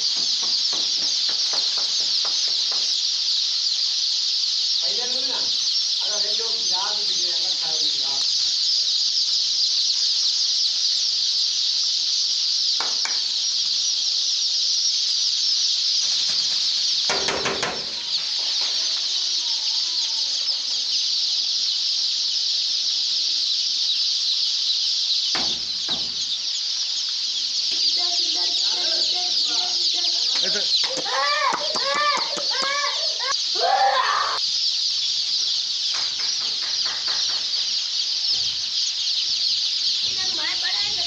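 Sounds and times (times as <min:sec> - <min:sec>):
chicks peeping: 0:00.0 - 0:41.0.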